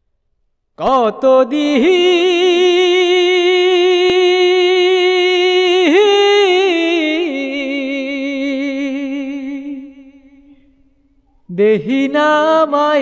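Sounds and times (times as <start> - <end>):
solo voice singing held notes: 0.8 - 13.0.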